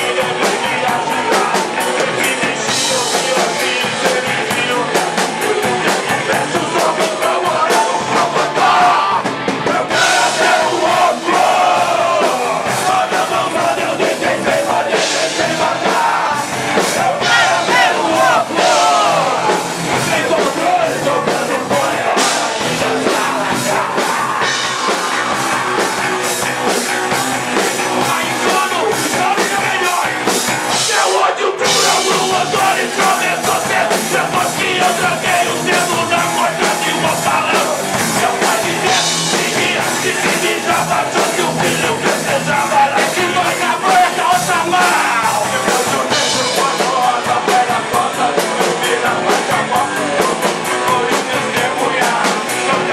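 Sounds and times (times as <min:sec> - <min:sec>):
person singing: 0:00.0 - 0:25.9, 0:27.9 - 0:30.1, 0:30.7 - 0:52.9
live rock band playing: 0:00.0 - 0:52.9.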